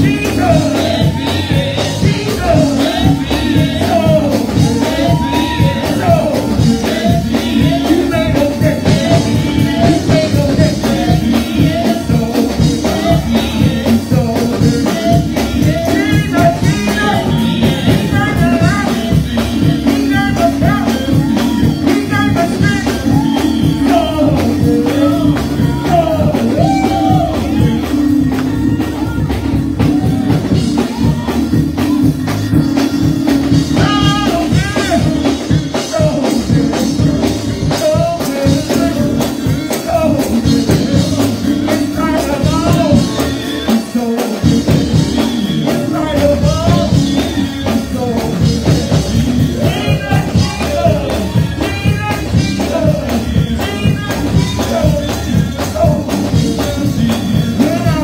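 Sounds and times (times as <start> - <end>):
band playing: 0.0 - 58.0
drum kit steady beat: 0.0 - 58.0
voices singing: 0.0 - 58.0.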